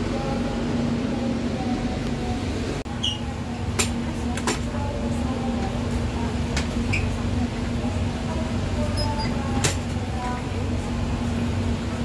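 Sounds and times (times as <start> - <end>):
train coach hum: 0.0 - 12.0.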